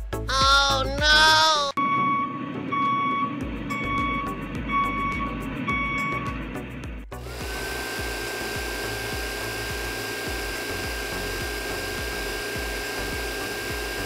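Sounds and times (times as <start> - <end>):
water pump motor whine: 1.8 - 14.0.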